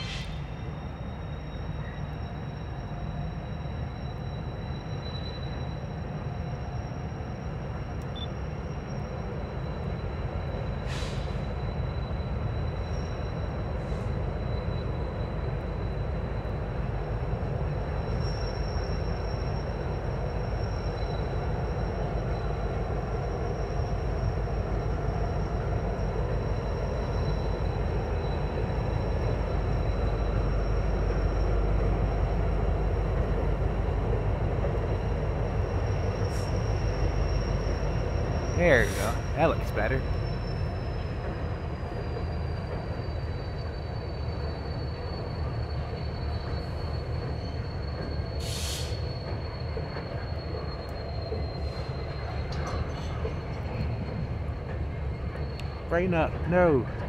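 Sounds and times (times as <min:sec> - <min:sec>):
freight train rumbling on rails: 0:00.0 - 0:57.0.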